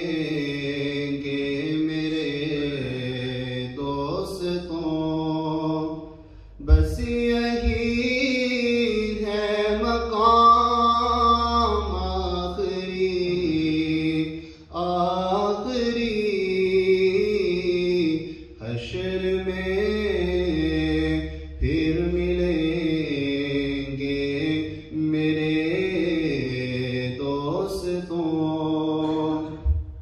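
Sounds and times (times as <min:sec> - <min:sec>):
man singing unaccompanied: 0:00.0 - 0:29.6.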